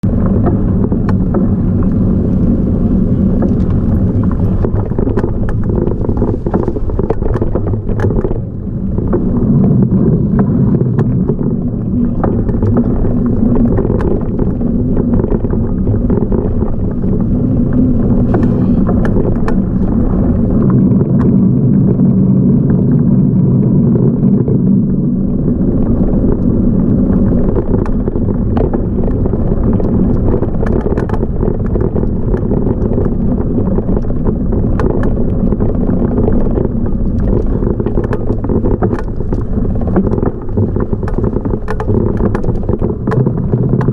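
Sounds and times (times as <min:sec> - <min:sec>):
bike ride rumble: 0:00.0 - 0:43.9
rattles and knocks: 0:00.1 - 0:20.6, 0:27.4 - 0:43.9.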